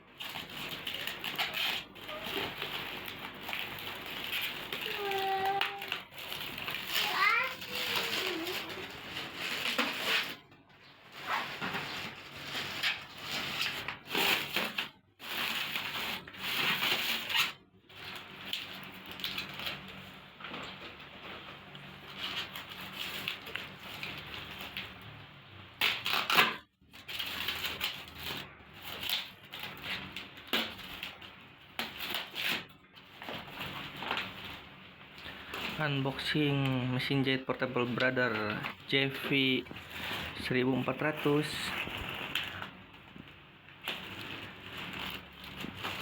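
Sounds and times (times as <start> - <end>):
packaging rustling and crinkling: 0.1 - 46.0.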